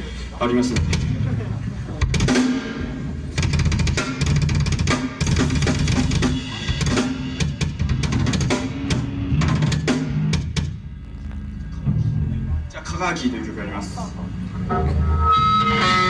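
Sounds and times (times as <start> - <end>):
bass guitar: 0.0 - 16.0.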